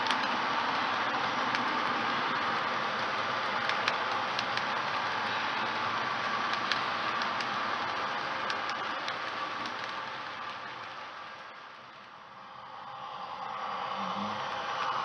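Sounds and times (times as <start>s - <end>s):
wheels clicking on rails: 0.0s - 12.1s
model train cars rolling on track: 0.0s - 13.6s.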